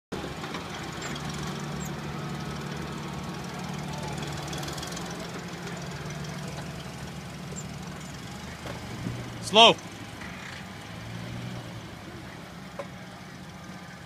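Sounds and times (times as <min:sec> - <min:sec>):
car engine running at low revs: 0:00.1 - 0:14.0.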